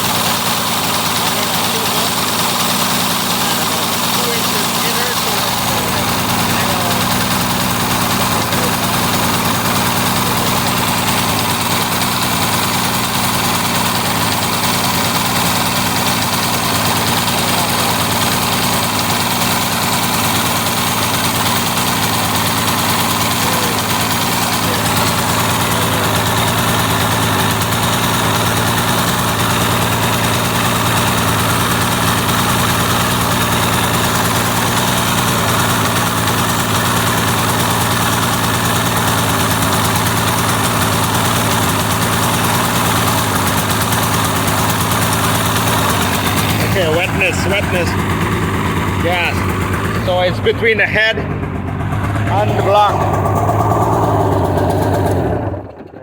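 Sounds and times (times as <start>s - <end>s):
snowmobile engine idling: 0.0s - 56.0s.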